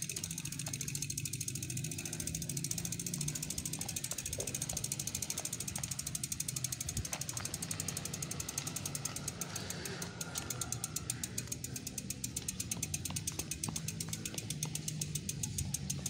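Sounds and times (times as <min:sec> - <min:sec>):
bicycle freewheel ticking: 0:00.0 - 0:16.0
low steady rumble: 0:00.0 - 0:16.0.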